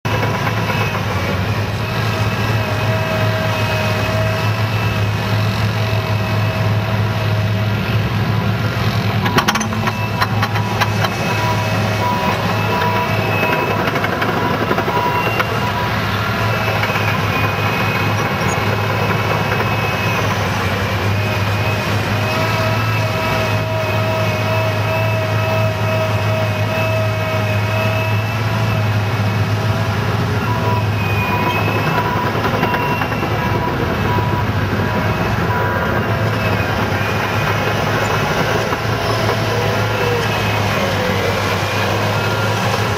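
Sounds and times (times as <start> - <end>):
loader diesel engine running: 0.0 - 42.9
high squealing tones: 0.1 - 42.9.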